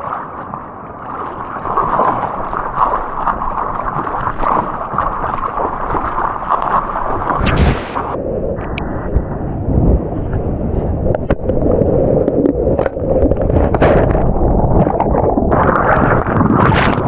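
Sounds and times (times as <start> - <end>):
seawater sloshing in surf: 0.0 - 8.2, 10.0 - 17.0.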